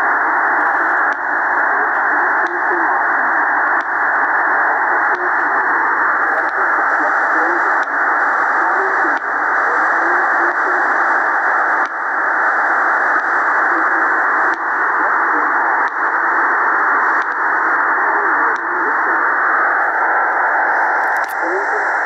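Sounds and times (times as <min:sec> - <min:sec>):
faint voice over radio: 0:00.0 - 0:22.0
radio static hiss: 0:00.0 - 0:22.0
sharp static clicks: 0:00.0 - 0:22.0.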